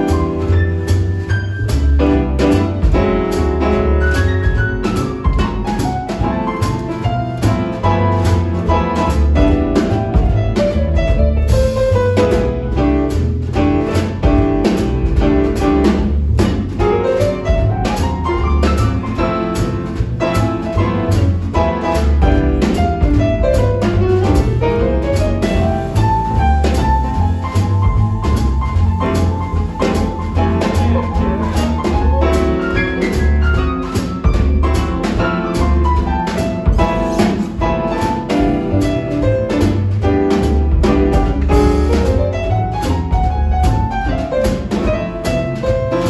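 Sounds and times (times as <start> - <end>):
jazz big band playing swing: 0.0 - 46.0.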